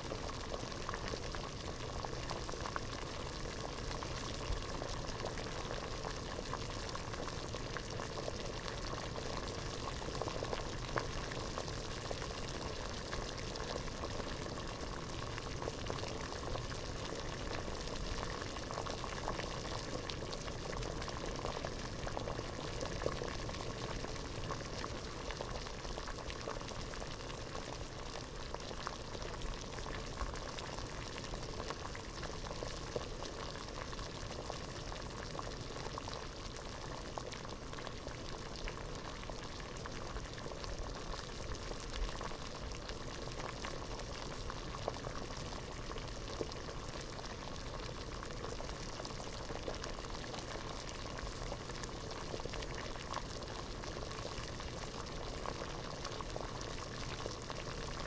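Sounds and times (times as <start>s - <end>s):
water boiling hard in pot: 0.0s - 58.0s.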